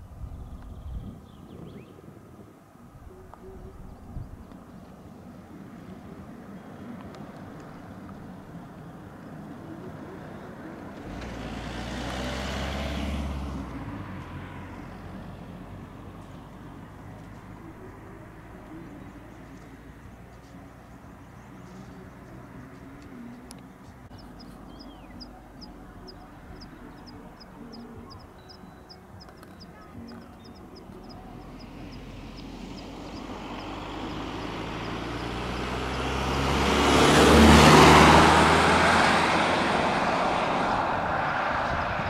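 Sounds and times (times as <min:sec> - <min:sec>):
vehicle passing close: 0:03.6 - 0:20.3, 0:21.0 - 0:42.0.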